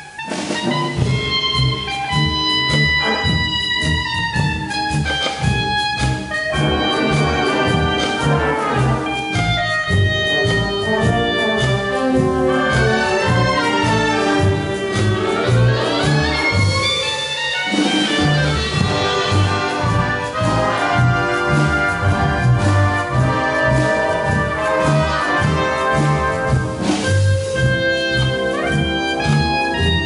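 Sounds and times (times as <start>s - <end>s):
solo clarinet melody: 0.0s - 30.0s
wind band playing a foxtrot: 0.0s - 30.0s.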